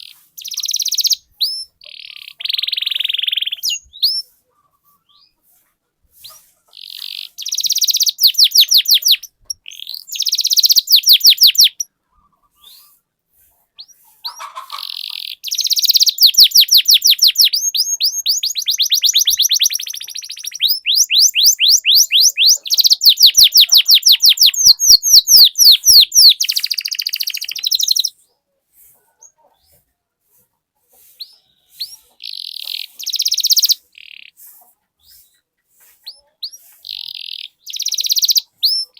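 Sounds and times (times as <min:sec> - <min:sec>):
canary singing fast trills: 0:00.0 - 0:05.5, 0:06.1 - 0:13.0, 0:13.8 - 0:28.4, 0:31.0 - 0:38.9.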